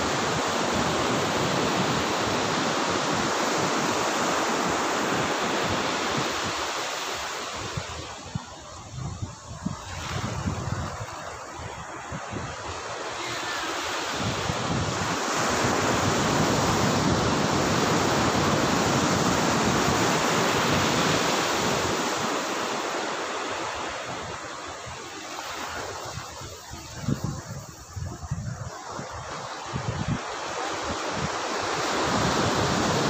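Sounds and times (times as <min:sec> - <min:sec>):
wave wash rushing up sand: 0:00.0 - 0:33.0.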